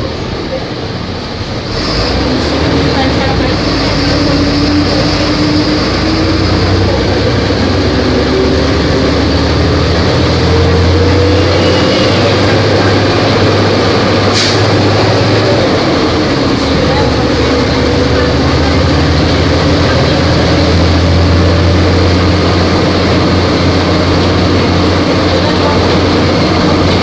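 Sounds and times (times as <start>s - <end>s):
bus diesel engine accelerating: 0.0s - 27.0s.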